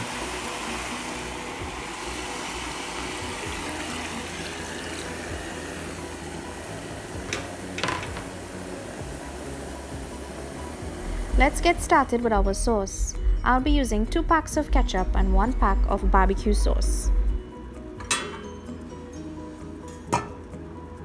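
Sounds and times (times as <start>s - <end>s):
water hissing in hot pot: 0.0s - 17.3s.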